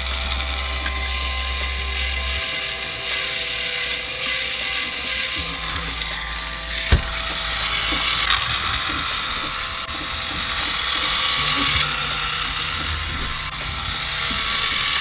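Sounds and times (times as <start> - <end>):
plastic gears clicking: 0.0 - 15.0
small electric motor whirring: 0.0 - 15.0.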